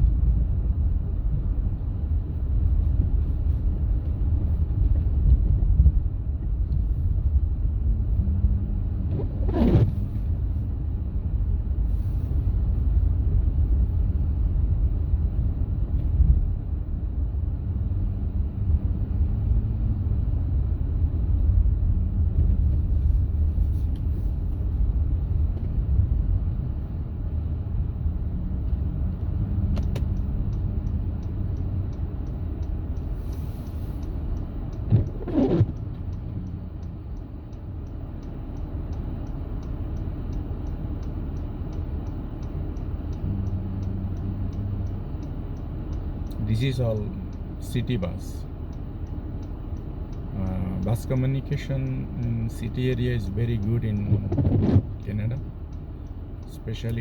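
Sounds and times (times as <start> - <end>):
vehicle rumbling: 0.0 - 57.0.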